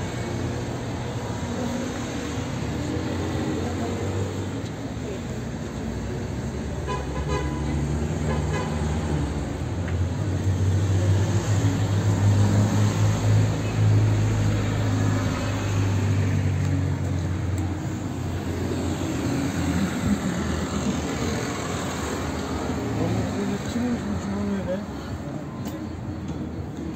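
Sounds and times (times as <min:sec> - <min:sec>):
road traffic: 0:00.0 - 0:26.9.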